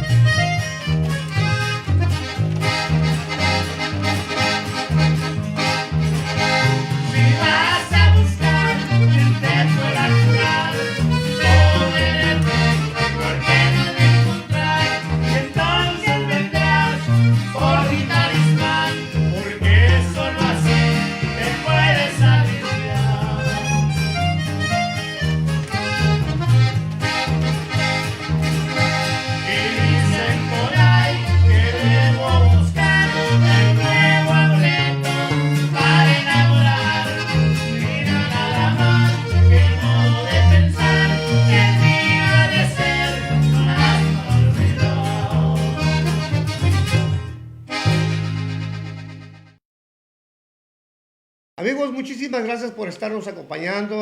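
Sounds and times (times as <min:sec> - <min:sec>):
accordion: 0:00.0 - 0:49.6
bouncing bass line: 0:00.0 - 0:49.6
guitar: 0:00.0 - 0:49.6.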